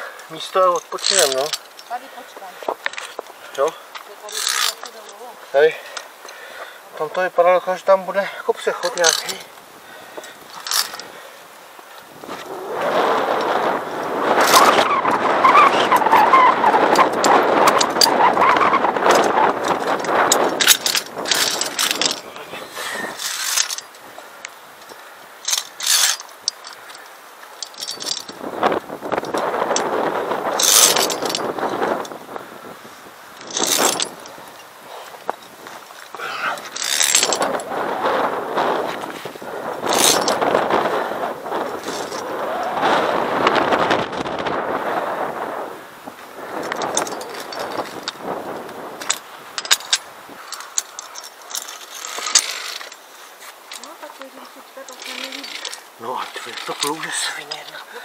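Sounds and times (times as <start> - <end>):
rustling close to microphone: 0.0 - 6.3, 7.0 - 58.0
carabiners clicking on steel cable: 0.2 - 9.6, 10.2 - 11.2, 12.0 - 32.3, 33.4 - 37.8, 38.9 - 44.0, 46.5 - 53.0, 53.6 - 58.0.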